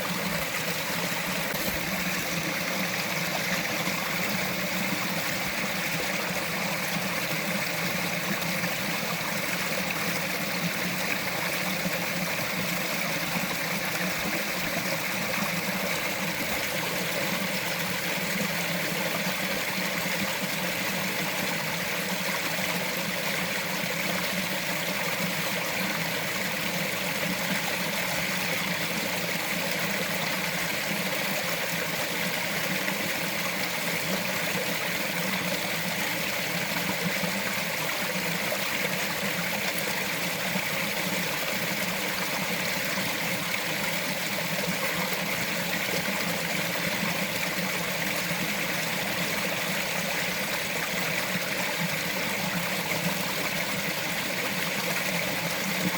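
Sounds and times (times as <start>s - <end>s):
stream trickling over rocks: 0.0s - 55.9s.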